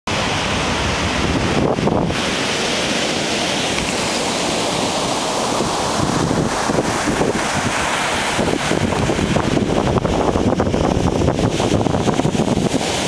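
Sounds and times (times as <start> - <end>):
breaking ocean waves: 0.1 - 13.0.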